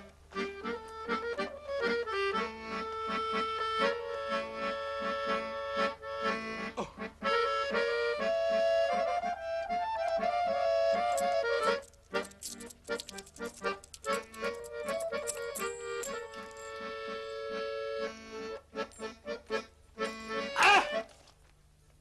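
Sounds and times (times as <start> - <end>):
accordion playing folk dance tune: 0.0 - 21.2.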